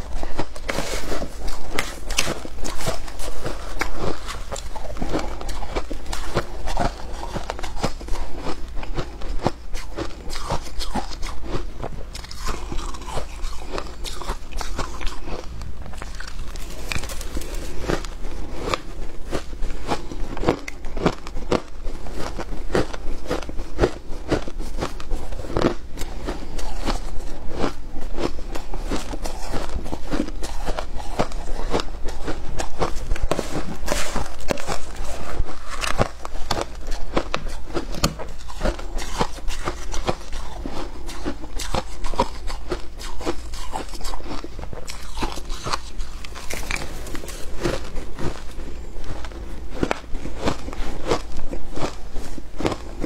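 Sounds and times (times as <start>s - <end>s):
shaved ice crunching in mouth: 0.0s - 53.0s.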